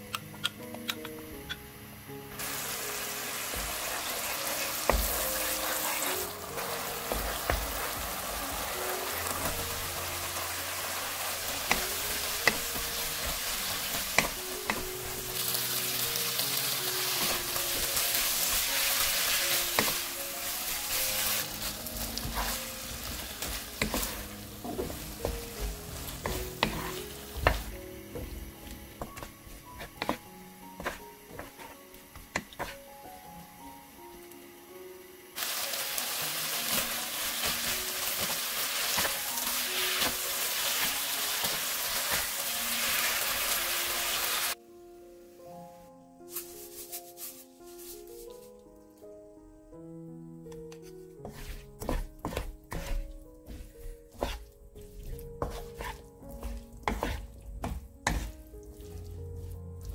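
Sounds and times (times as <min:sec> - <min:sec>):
vegetables sizzling in a frying pan: 0:02.3 - 0:32.8, 0:33.5 - 0:44.6, 0:51.3 - 0:59.9.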